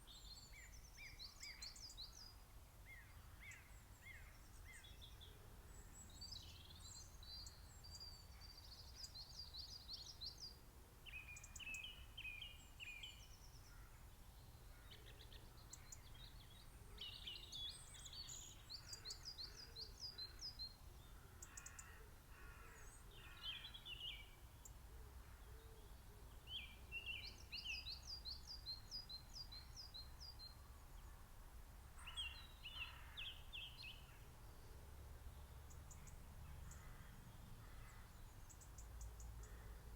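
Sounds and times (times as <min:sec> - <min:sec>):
small songbirds singing: 0:00.0 - 0:24.8, 0:25.4 - 0:31.2, 0:31.9 - 0:39.9.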